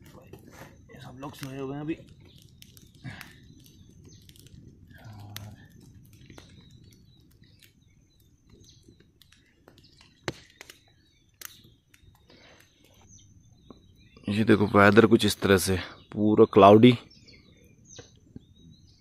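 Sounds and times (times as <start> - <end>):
faint bird chirps: 0.1 - 19.0.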